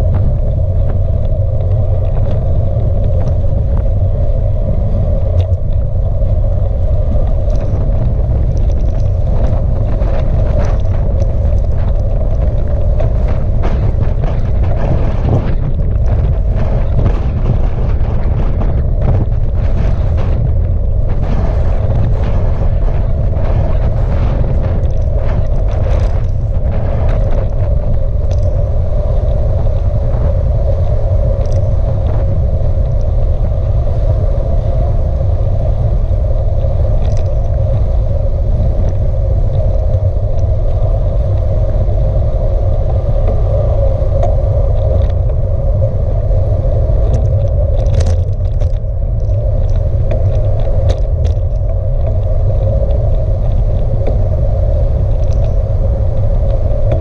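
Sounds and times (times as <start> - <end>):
tyre noise hum: 0.0 - 57.0
wind buffeting on microphone: 0.0 - 57.0
faint clicks and ticks: 5.0 - 6.0, 6.6 - 33.8, 36.2 - 57.0.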